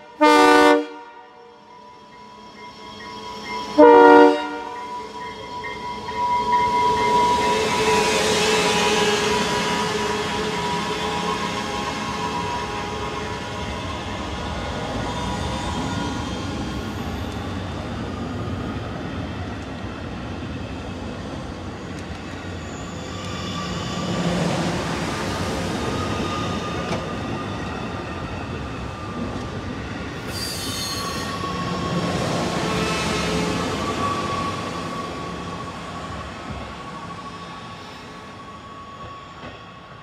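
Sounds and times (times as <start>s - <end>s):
electric train whine: 0.1s - 40.0s
wheels squealing on rails: 1.6s - 19.4s, 20.6s - 40.0s.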